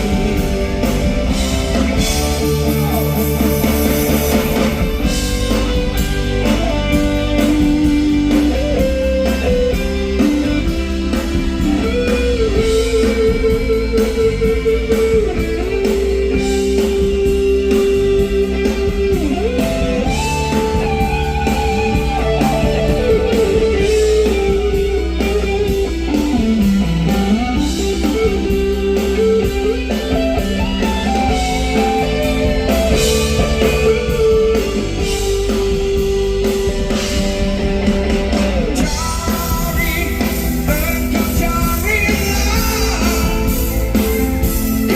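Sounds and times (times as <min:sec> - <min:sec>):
drums and bass: 0:00.0 - 0:44.9
electric guitar lead melody: 0:00.0 - 0:44.9.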